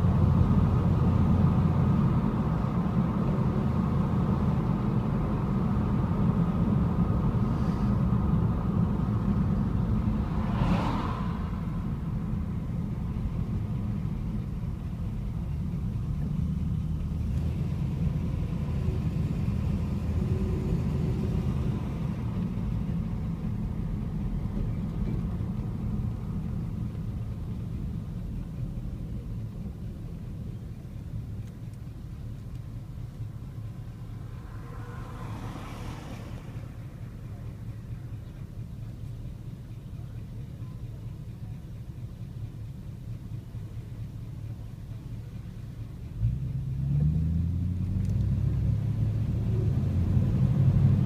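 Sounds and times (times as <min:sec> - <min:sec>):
car engine rumble: 0:00.0 - 0:51.0
road noise: 0:00.0 - 0:51.0.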